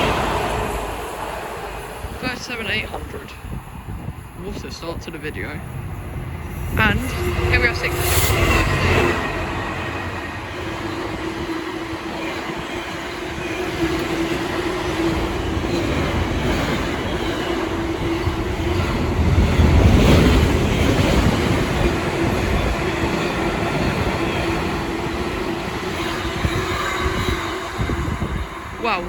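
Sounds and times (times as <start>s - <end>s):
clattering train wheels: 0.0s - 29.0s
diesel locomotive drone: 0.0s - 29.0s.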